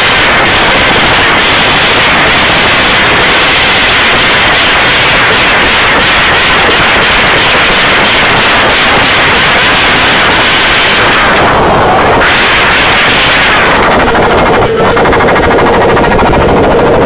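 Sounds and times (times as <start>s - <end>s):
motorcycle engine on rev limiter: 0.0s - 17.0s.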